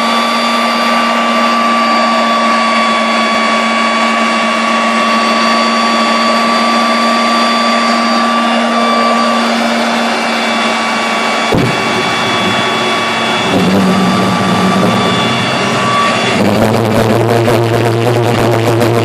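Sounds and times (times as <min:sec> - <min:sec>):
jet engine whine: 0:00.0 - 0:19.0.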